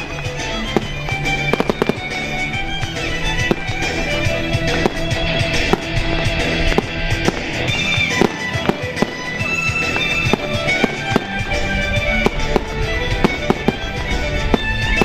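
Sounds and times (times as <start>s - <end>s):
fireworks bangs: 0.0s - 15.0s
loud music: 0.0s - 15.0s.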